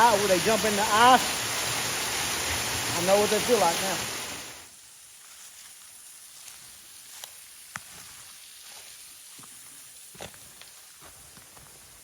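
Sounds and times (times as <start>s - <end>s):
distant falling water hiss: 0.0s - 12.0s.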